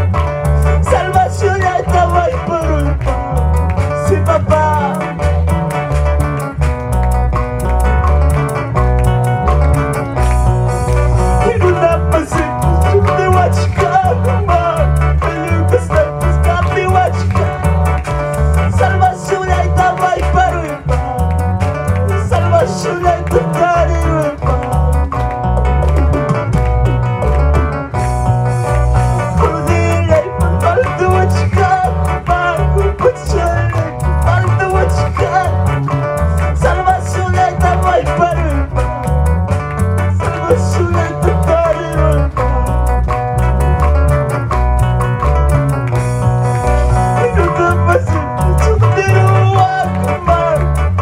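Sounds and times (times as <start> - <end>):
electric guitar melody: 0.0 - 51.0
electric keyboard melody: 0.0 - 51.0
pulsing bass beat: 0.0 - 51.0.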